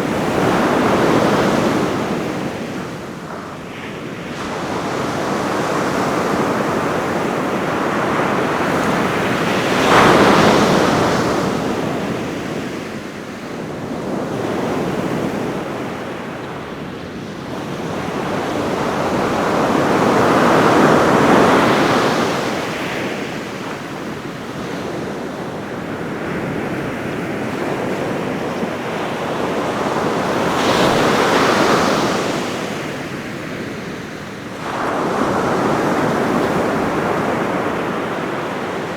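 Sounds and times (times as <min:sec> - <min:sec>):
waves breaking on a beach: 0:00.0 - 0:38.9
wind: 0:00.0 - 0:38.9.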